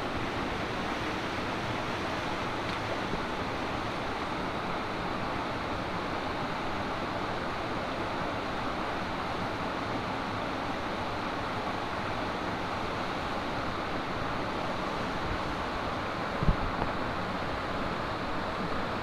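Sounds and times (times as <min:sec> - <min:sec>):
stream flowing over rocks: 0:00.0 - 0:19.0.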